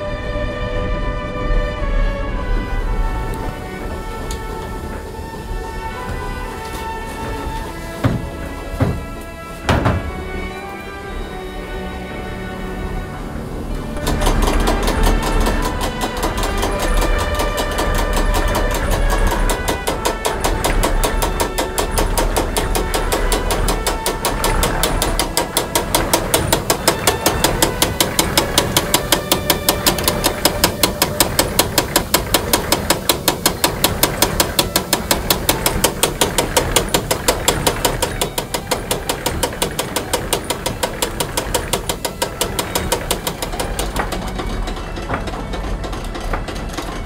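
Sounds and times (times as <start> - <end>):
mill machinery clattering: 2.4 - 47.0.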